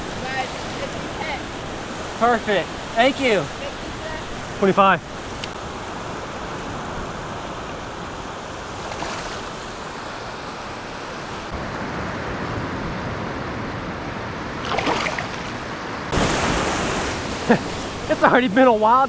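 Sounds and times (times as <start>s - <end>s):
small waves lapping: 0.0s - 11.6s, 14.5s - 18.4s.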